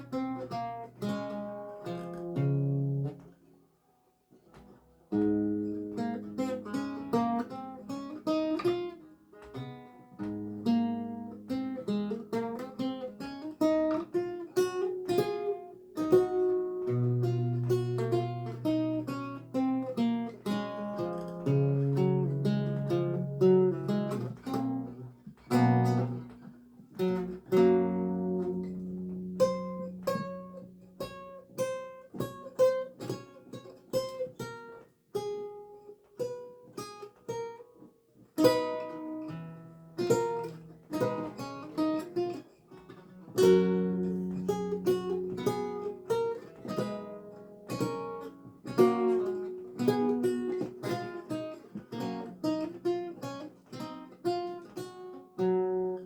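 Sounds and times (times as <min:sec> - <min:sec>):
solo lute music: 0:00.0 - 0:56.0.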